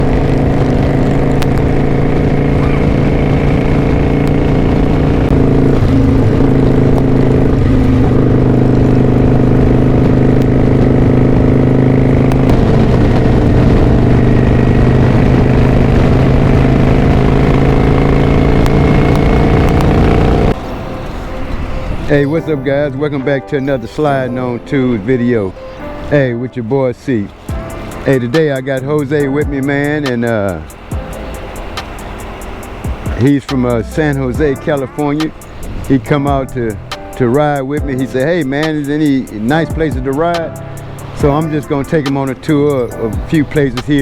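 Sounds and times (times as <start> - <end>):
motorcycle engine running: 0.0 - 22.7, 27.3 - 44.0.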